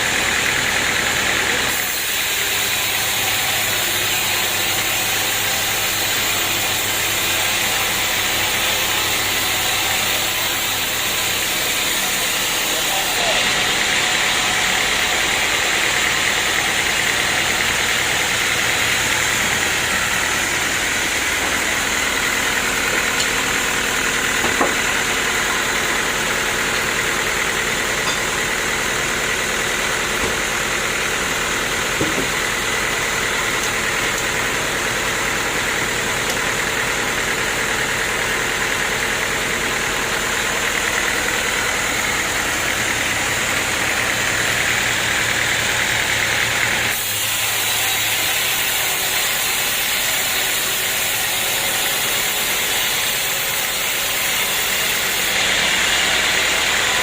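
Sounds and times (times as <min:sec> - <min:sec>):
portable sawmill running: 0:00.0 - 0:57.0.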